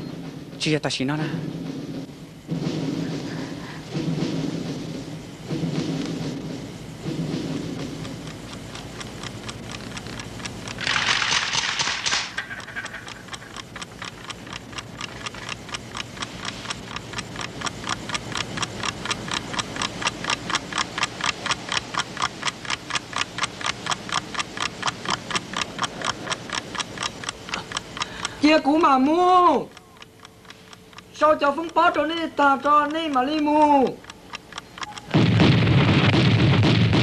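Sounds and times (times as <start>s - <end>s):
steady even clicking: 0.0s - 37.0s.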